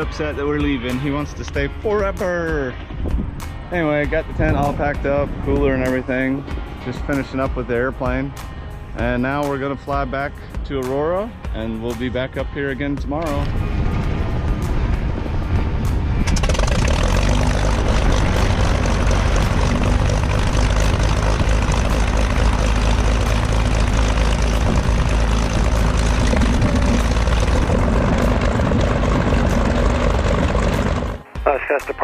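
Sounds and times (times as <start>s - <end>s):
propeller airplane engine: 0.0s - 9.9s, 12.8s - 31.5s.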